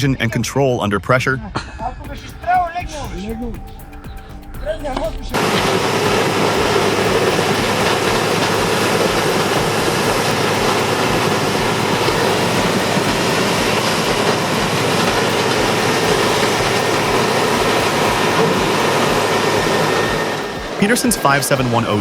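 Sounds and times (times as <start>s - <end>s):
heavy machinery running: 2.5s - 22.0s.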